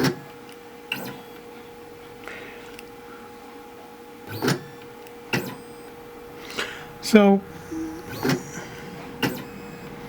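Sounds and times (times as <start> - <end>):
electrical hum: 0.7 - 10.0.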